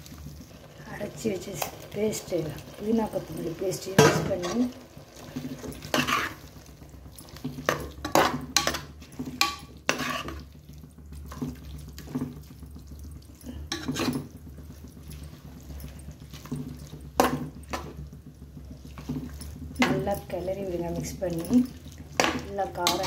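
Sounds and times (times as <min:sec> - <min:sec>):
metal ladle scraping pot: 0:02.8 - 0:12.4, 0:13.5 - 0:23.0.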